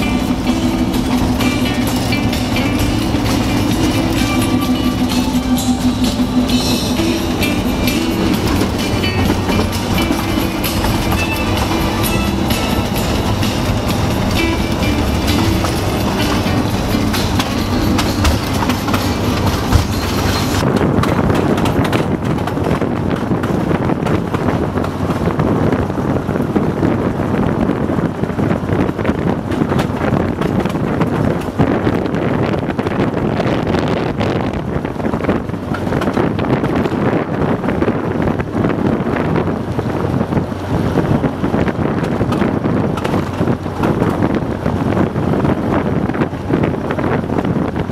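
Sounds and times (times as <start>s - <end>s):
diesel locomotive engine running: 0.0s - 47.9s
wheels rattling and clicking on track: 0.0s - 47.9s.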